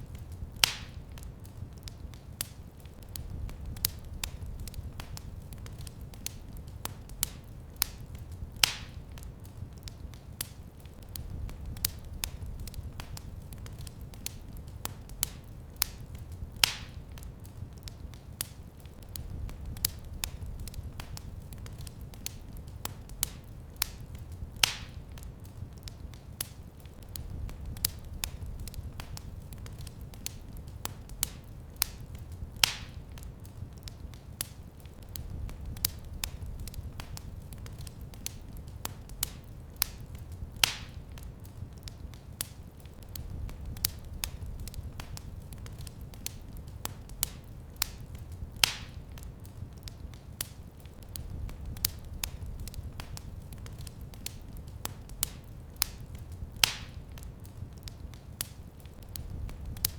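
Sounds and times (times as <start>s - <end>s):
fire crackling and popping: 0.0s - 59.9s
loud fire snaps: 0.0s - 59.9s.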